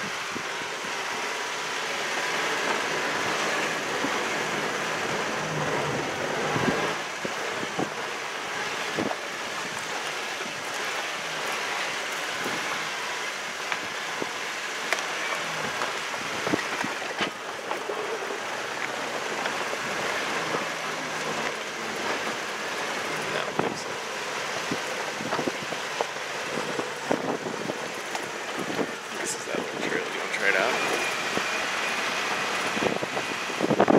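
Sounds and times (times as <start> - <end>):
tyre and road noise: 0.0 - 33.9.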